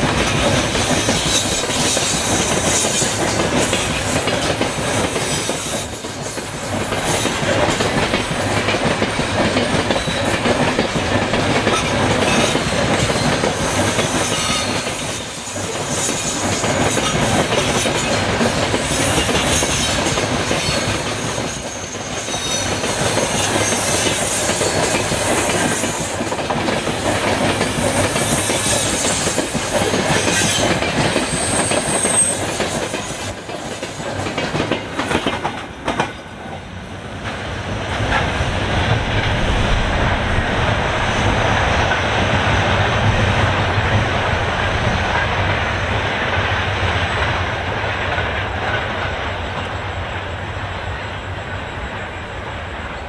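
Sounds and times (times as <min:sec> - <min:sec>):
train wheels clattering on rails: 0:00.0 - 0:53.0
high wheel squeal: 0:00.2 - 0:10.4, 0:11.7 - 0:47.7.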